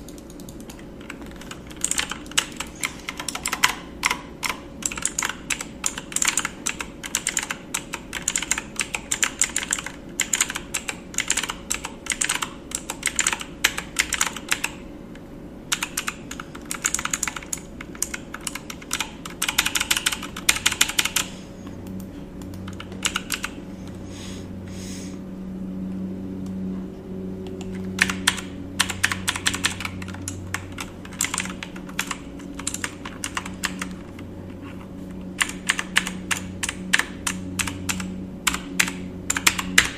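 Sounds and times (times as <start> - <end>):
computer keyboard typing: 0.0 - 14.8, 15.7 - 21.3, 22.4 - 23.6, 27.4 - 34.3, 35.1 - 39.9
steady low hum: 0.0 - 39.9.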